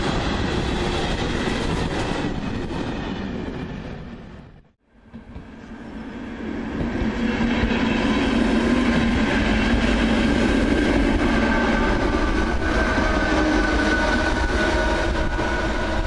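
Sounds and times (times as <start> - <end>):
electric whine of train: 0.0 - 16.0
train wheels rumbling on rails: 0.0 - 16.0.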